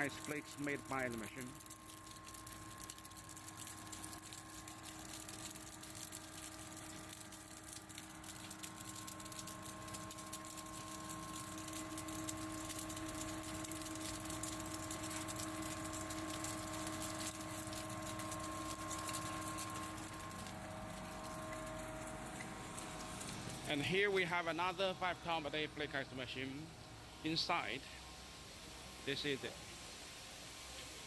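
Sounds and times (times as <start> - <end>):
ice machine humming: 0.0 - 26.4.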